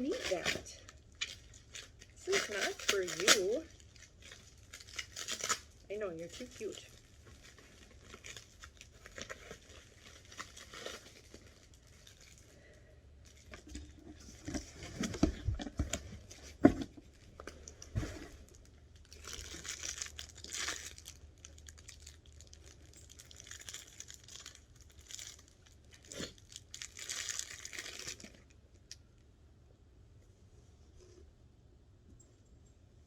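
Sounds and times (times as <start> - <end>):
packing material rustling: 0.0 - 28.6.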